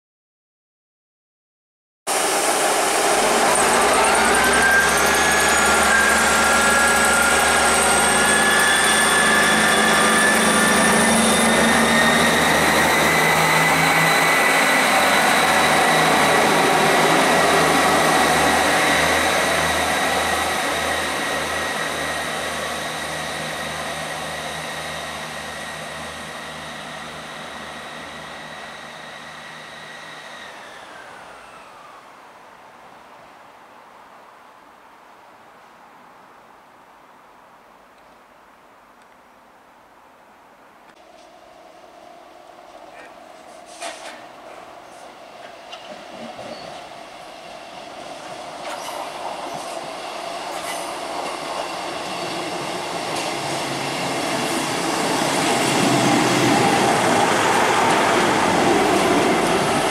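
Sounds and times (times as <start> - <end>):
diesel train engine accelerating: 2.1 - 32.5, 41.0 - 59.9.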